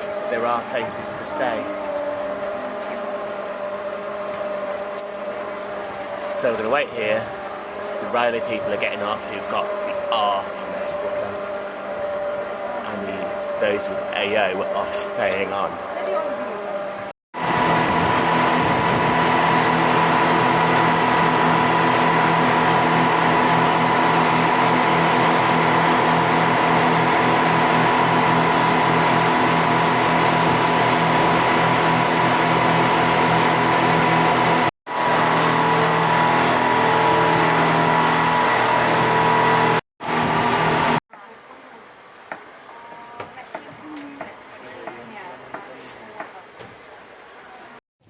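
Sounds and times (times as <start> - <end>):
speedboat engines droning: 0.0 - 41.0.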